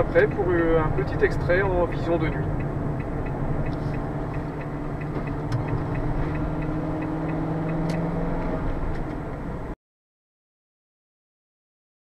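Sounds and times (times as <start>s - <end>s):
light regular ticking: 0.0s - 9.7s
car engine humming: 0.0s - 9.8s
road noise inside car: 0.0s - 9.8s.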